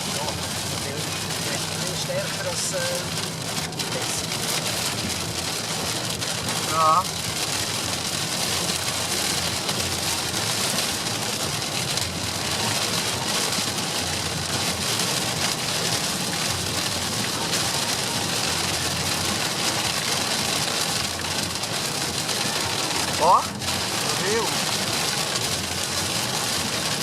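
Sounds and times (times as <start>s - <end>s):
heavy rain on a car: 0.0s - 27.0s
tyre and road noise: 0.0s - 27.0s.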